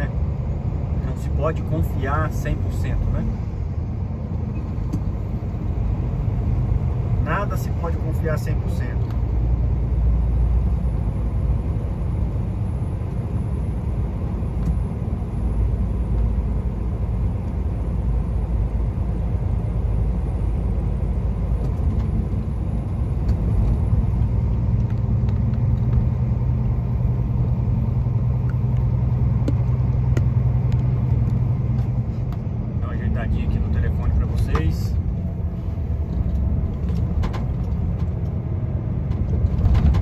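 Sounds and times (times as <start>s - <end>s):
truck diesel engine rumble: 0.0s - 40.0s.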